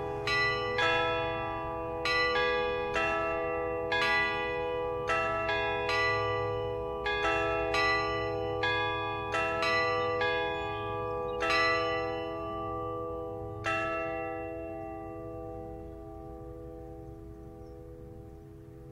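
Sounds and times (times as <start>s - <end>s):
church bells pealing: 0.0s - 18.9s.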